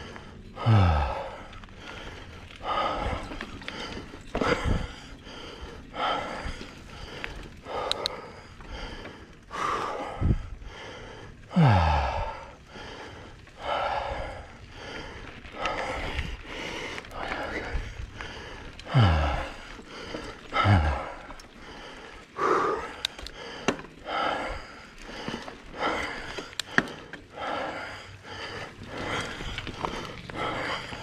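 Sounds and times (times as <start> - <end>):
person breathing hard: 0.0 - 31.0.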